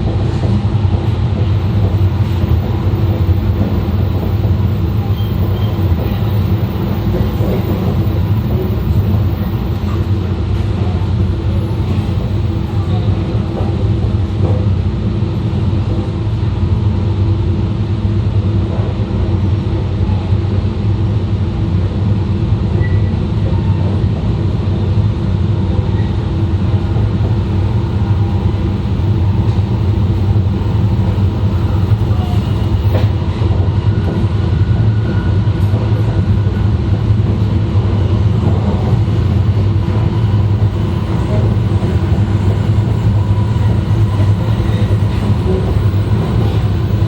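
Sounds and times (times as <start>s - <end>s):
train wheels rumbling: 0.0s - 47.0s.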